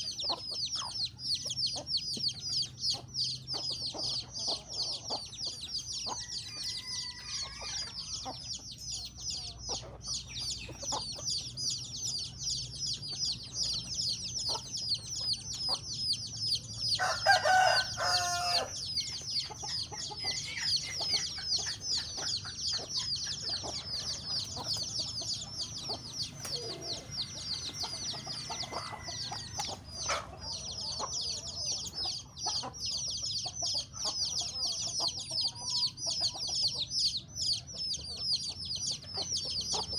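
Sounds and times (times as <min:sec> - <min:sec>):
chickens clucking: 0:00.0 - 0:39.9
chorus of high chirps: 0:00.0 - 0:39.9.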